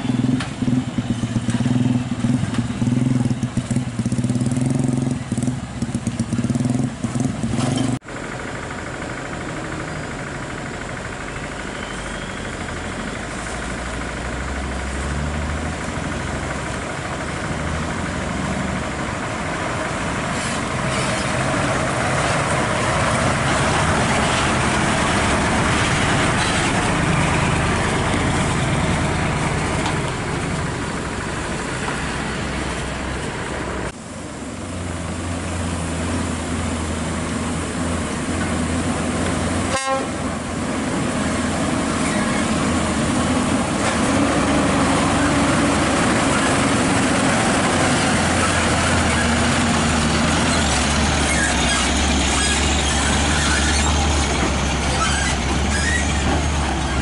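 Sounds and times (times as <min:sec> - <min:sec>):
heavy diesel trucks driving: 0:00.0 - 0:57.0
low steady engine drone: 0:08.0 - 0:57.0.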